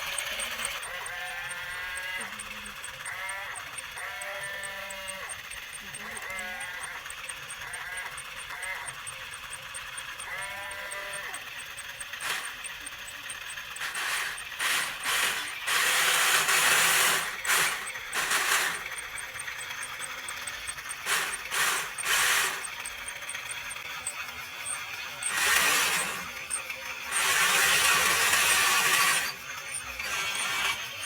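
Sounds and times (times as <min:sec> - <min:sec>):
faint high ticking: 0:00.0 - 0:31.0
rasping mechanical bursts: 0:00.0 - 0:31.0.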